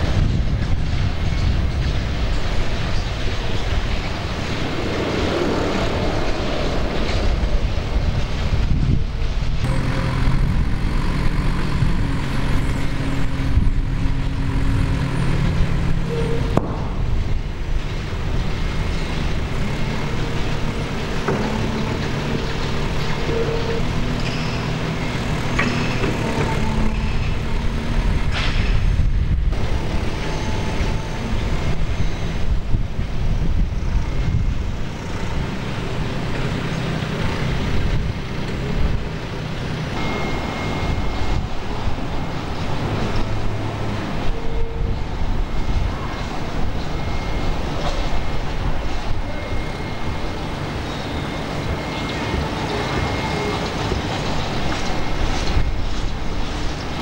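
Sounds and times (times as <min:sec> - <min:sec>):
heavy machinery engines humming: 0:00.0 - 0:57.0.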